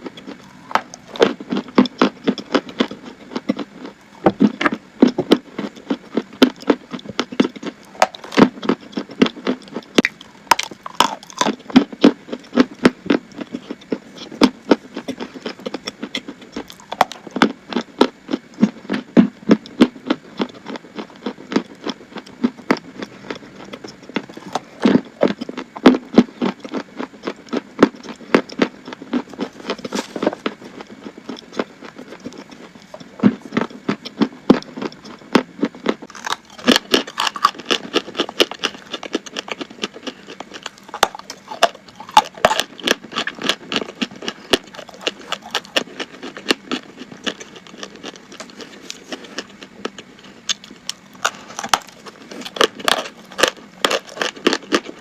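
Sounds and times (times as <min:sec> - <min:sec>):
chalk being chewed crunching: 0:00.0 - 0:55.0.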